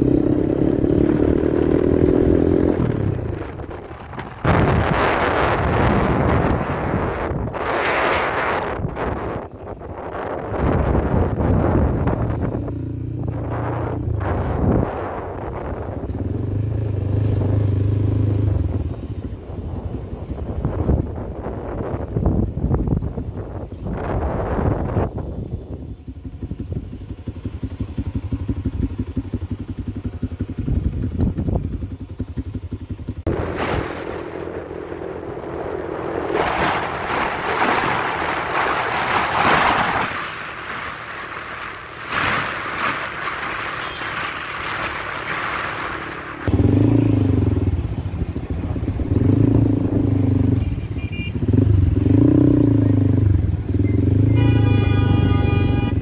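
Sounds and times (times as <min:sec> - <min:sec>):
wind buffeting microphone: 0:00.0 - 0:50.7
car engines in traffic: 0:00.0 - 0:56.0
motorcycle engines in traffic: 0:00.0 - 0:56.0
road noise and wind rushing: 0:00.0 - 0:56.0.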